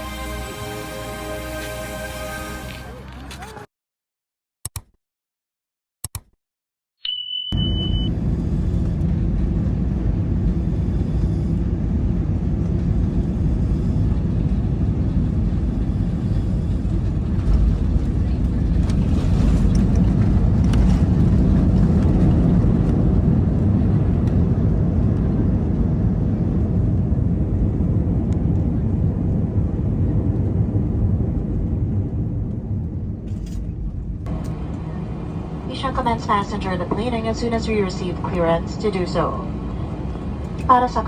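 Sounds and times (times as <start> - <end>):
airliner cabin rumble: 7.6 - 41.0.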